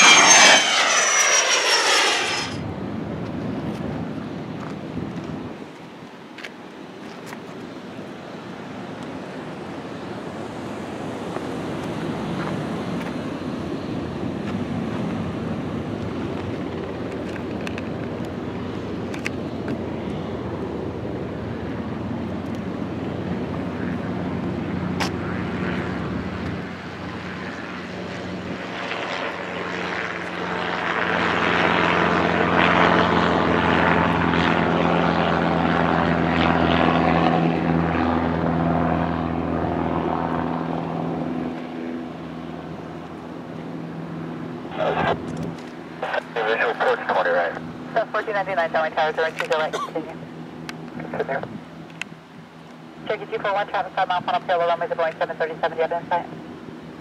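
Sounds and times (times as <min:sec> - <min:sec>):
airplane engines droning: 0:00.0 - 0:57.0.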